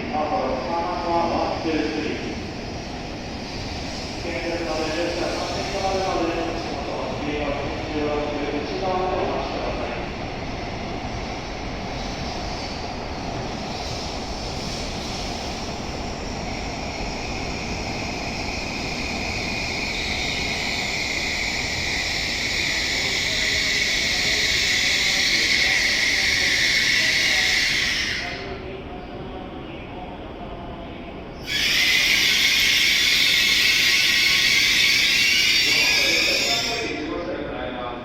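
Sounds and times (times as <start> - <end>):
train pulling into platform: 0.0 - 38.0.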